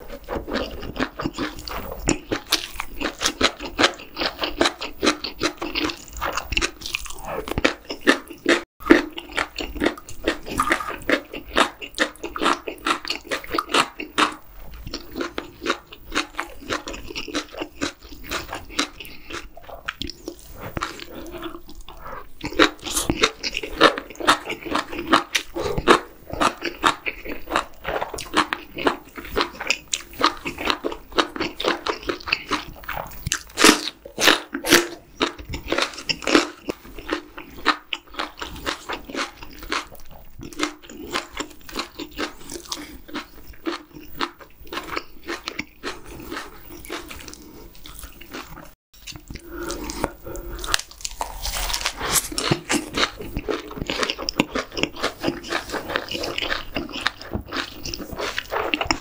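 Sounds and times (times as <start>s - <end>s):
wet chewing mouth clicks: 0.1s - 59.0s.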